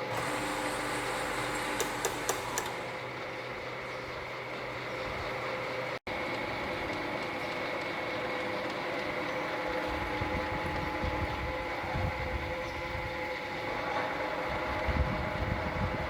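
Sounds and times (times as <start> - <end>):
lathe running with mechanical whine: 0.0 - 16.0.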